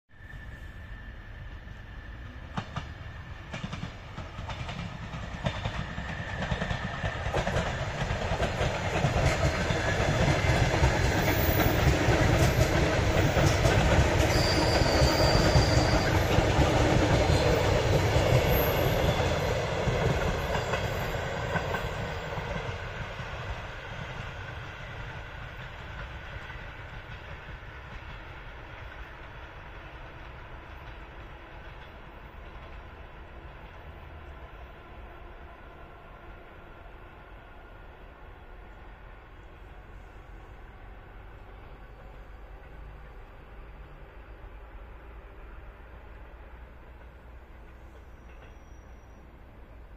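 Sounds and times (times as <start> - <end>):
electric train passing: 0.1 - 49.9.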